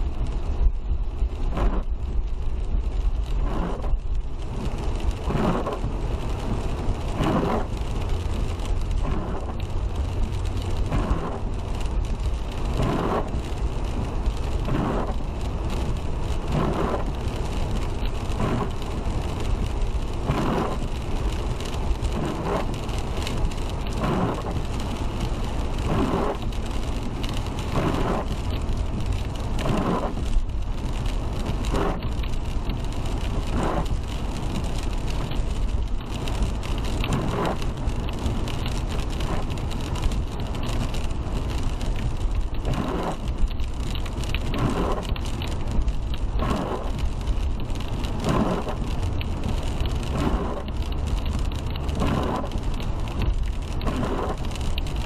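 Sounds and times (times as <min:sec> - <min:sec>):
rain: 0:00.0 - 0:55.0
road and engine rumble: 0:00.0 - 0:55.0
windshield wipers whooshing: 0:00.0 - 0:55.0.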